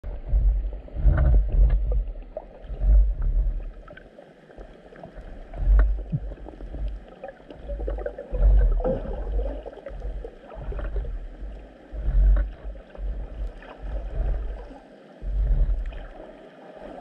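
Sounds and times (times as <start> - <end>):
muffled underwater rumbles: 0.0 - 17.0
faint clicks and crackles: 0.1 - 17.0.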